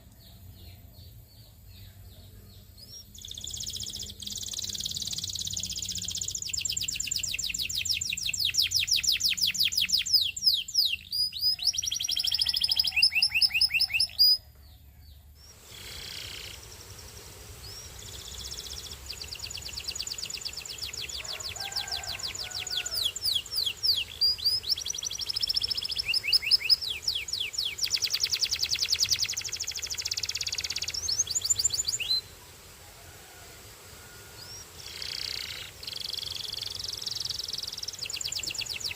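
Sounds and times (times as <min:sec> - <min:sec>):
canary singing rapid trills: 0:02.6 - 0:14.5, 0:15.2 - 0:32.3, 0:34.4 - 0:38.9.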